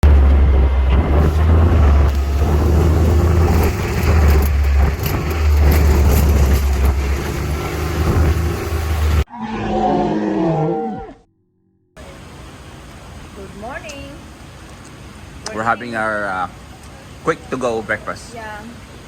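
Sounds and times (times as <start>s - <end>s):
vehicle engine rumbling: 0.0s - 9.3s, 11.8s - 19.0s.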